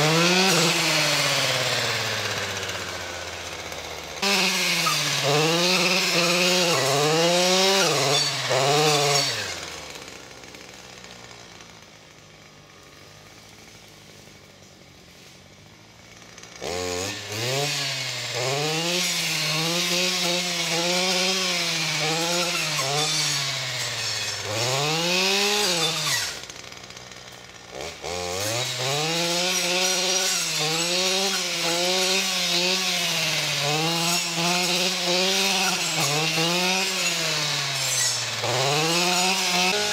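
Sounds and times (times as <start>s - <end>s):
brushcutter engine revving: 0.0s - 39.9s.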